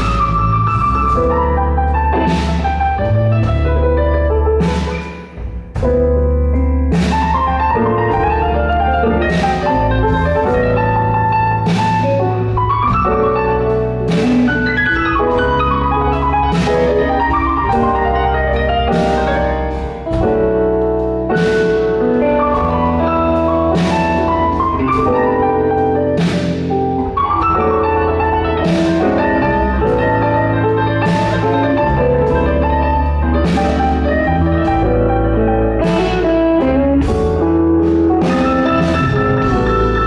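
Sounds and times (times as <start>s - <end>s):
blues band playing: 0.0s - 40.0s.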